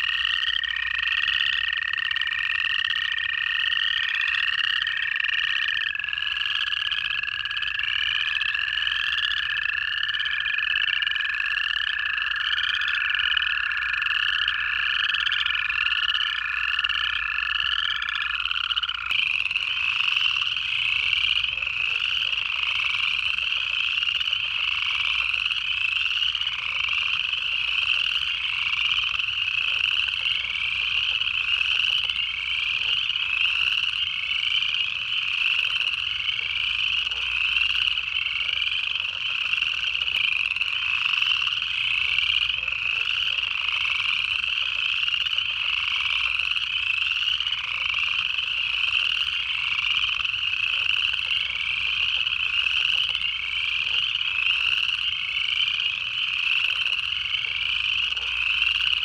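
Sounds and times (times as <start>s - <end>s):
frogs ascending trills: 0.0s - 59.0s
toads long even trills: 0.0s - 59.0s.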